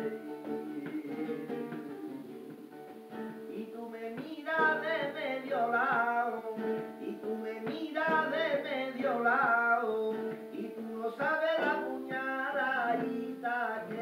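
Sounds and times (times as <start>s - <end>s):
man singing: 0.0s - 14.0s
plucked and strummed guitar: 0.0s - 14.0s.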